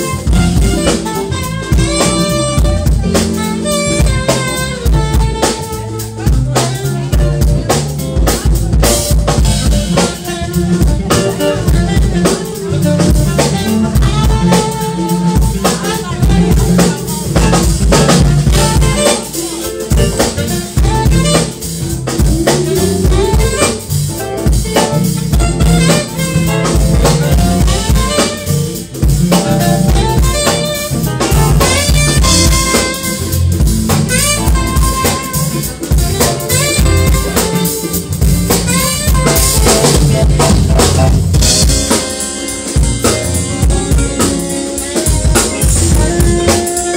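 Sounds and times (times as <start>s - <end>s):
drum kit groove: 0.0s - 46.9s
electric bass: 0.0s - 46.9s
electric guitar: 0.0s - 46.9s
keyboards: 0.0s - 46.9s
saxophone: 0.0s - 46.9s.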